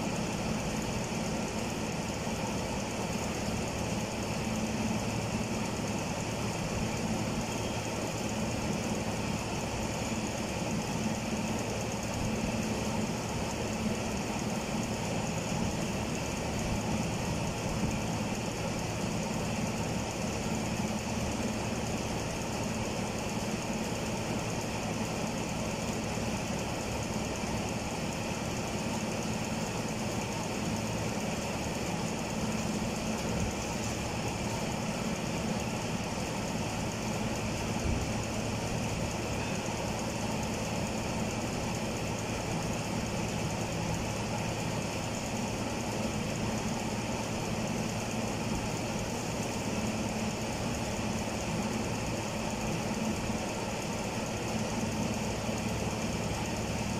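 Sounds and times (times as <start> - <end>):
machine droning: 0.0 - 56.9.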